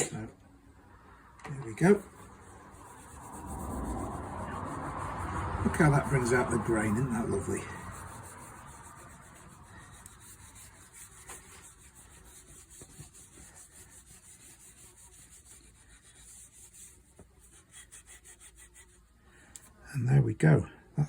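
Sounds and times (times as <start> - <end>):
rubbing oil into wood: 1.6 - 19.1.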